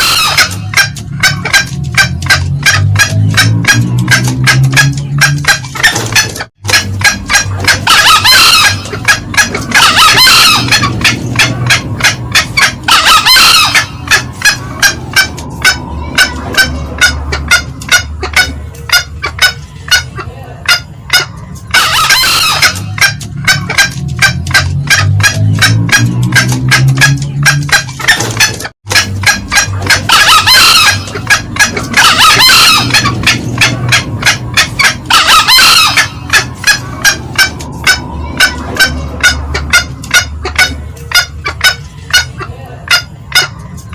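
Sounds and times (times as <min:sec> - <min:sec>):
junglefowl shrill call: 0:00.0 - 0:43.6
junglefowl clucking: 0:00.0 - 0:43.9.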